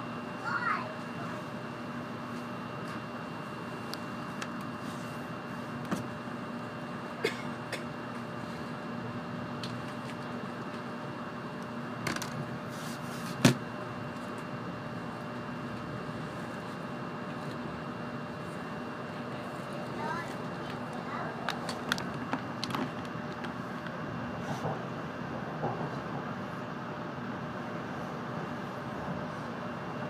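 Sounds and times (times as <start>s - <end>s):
train running hum: 0.0s - 30.0s.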